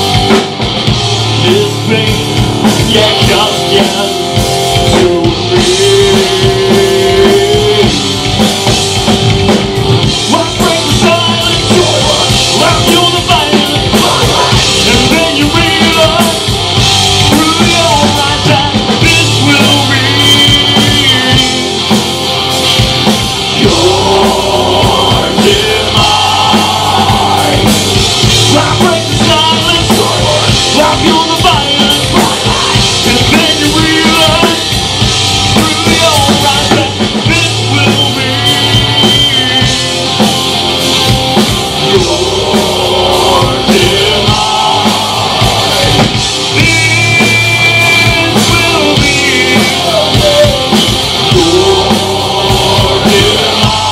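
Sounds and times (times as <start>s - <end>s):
drum kit: 0.0s - 53.9s
electric guitars: 0.0s - 53.9s.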